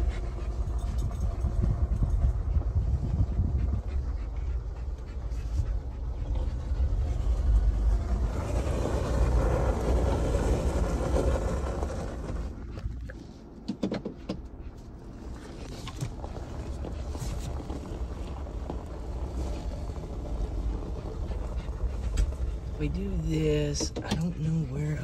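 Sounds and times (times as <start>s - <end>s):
engine and tyres rumbling: 0.0s - 25.0s.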